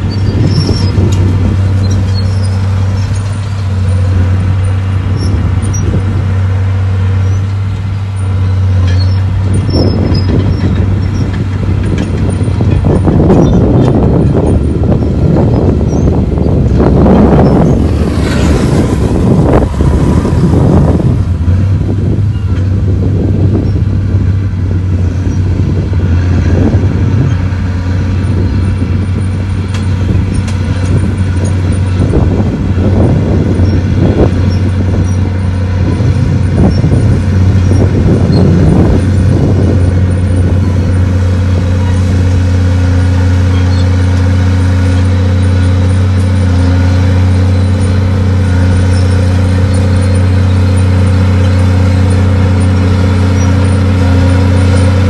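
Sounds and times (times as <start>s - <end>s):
diesel engine humming: 0.0s - 55.0s
machinery clanks and knocks: 7.0s - 23.9s, 25.0s - 55.0s.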